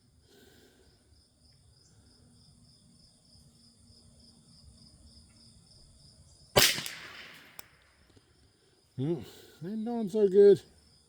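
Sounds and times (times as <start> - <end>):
faint insects trilling: 0.0 - 6.6, 7.2 - 11.0.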